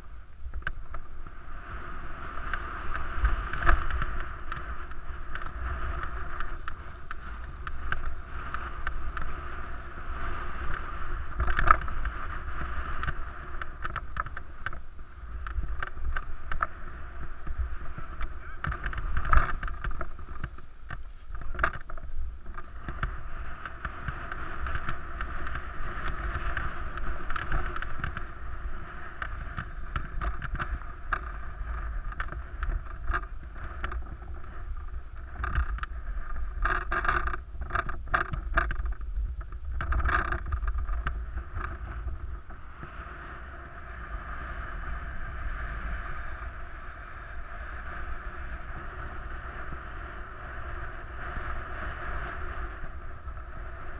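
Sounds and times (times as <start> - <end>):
skis sliding on packed snow: 0.0 - 53.9
wind buffeting microphone: 0.0 - 53.9.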